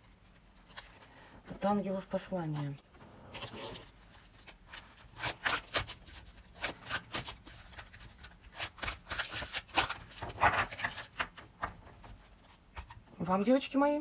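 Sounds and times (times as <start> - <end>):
cards being shuffled: 0.3 - 13.0.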